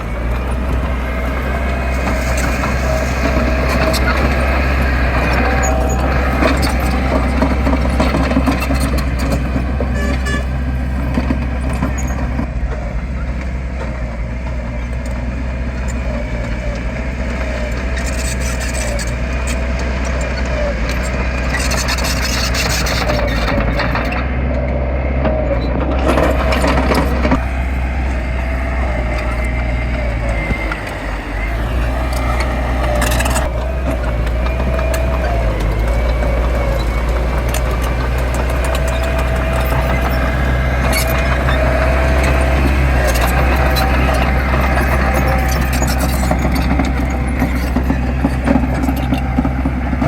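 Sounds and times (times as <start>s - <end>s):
heavy diesel engine running: 0.0s - 50.0s
machinery clanks: 0.0s - 50.0s.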